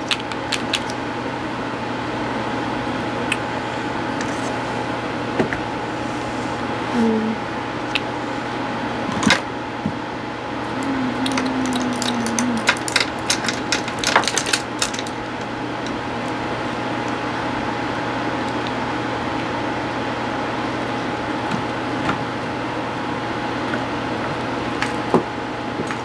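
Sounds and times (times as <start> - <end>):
background hiss and hum: 0.0 - 26.0.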